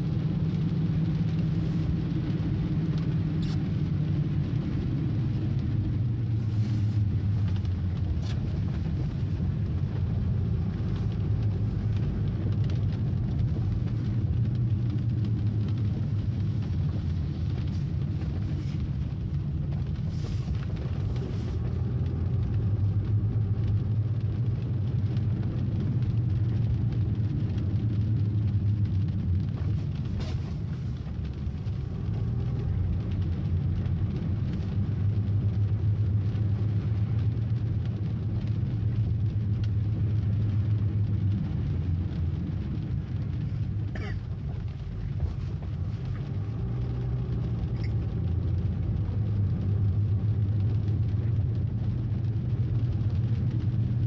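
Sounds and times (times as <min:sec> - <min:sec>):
car engine and tyre drone: 0:00.0 - 0:54.0
rain hiss: 0:00.0 - 0:54.0.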